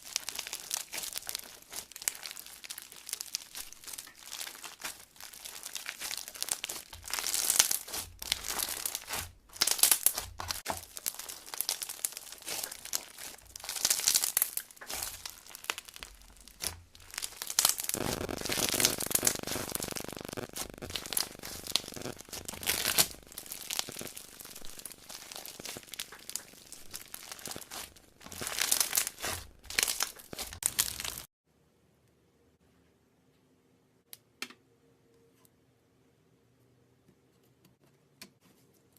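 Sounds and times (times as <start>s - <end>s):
hands squishing slime: 0.0s - 31.3s.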